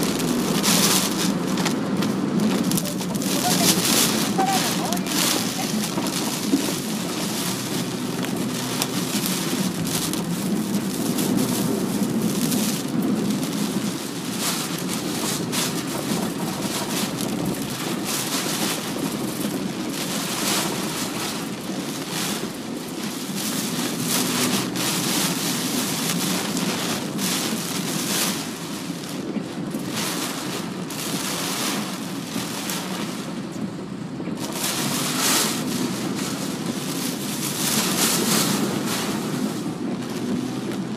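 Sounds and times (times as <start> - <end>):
rain pelting car body: 0.0 - 40.9
wind and road noise in car: 0.0 - 40.9.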